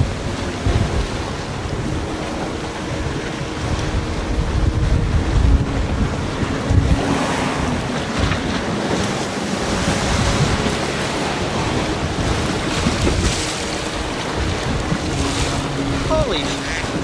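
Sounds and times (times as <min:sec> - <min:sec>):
choppy waves: 0:00.0 - 0:17.0
strong wind on microphone: 0:00.0 - 0:17.0.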